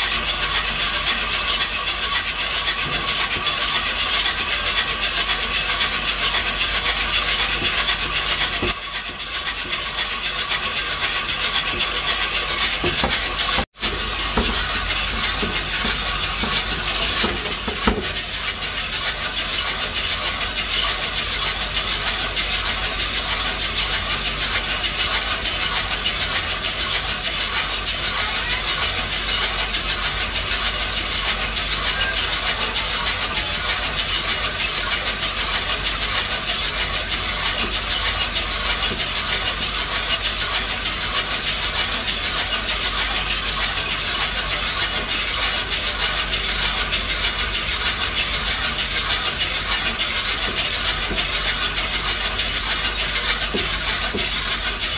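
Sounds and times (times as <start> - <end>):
coffee beans rattling in drum: 0.0 - 54.9.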